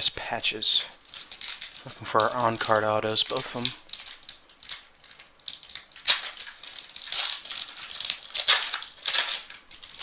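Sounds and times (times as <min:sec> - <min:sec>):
cards and packaging rustling: 0:00.5 - 0:10.0.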